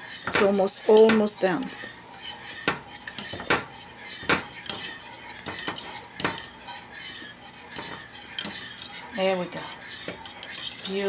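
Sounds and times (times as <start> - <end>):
whisk scraping a metal saucepan: 0.0 - 11.0.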